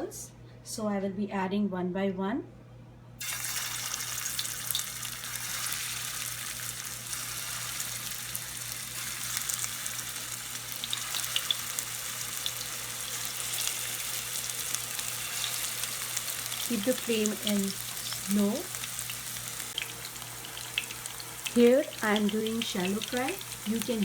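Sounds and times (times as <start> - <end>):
food sizzling in hot oil: 3.2 - 24.0.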